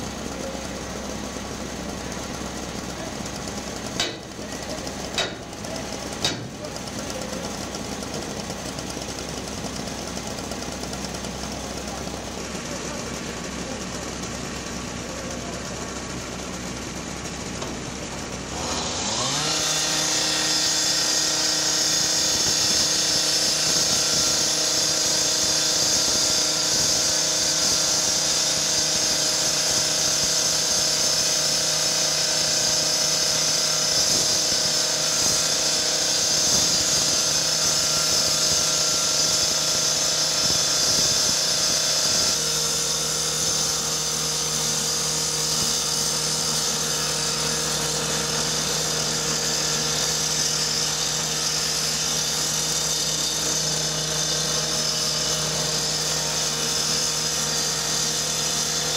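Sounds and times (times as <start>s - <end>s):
power saw cutting metal: 0.0s - 16.0s, 17.0s - 58.9s.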